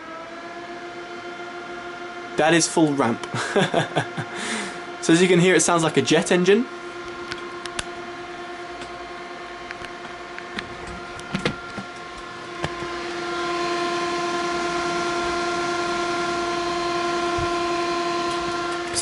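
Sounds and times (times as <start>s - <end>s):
radiator fans humming: 0.0s - 19.0s.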